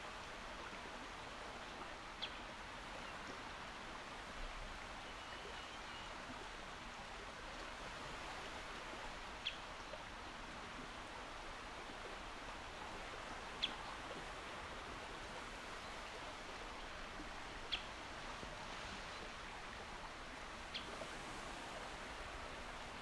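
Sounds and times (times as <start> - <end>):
calm sea washing: 0.0 - 23.0.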